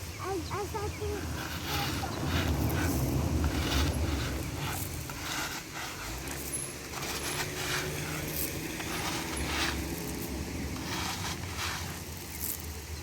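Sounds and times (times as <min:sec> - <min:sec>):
low rumble: 0:01.1 - 0:11.6
stones clinking and clattering: 0:01.4 - 0:12.8.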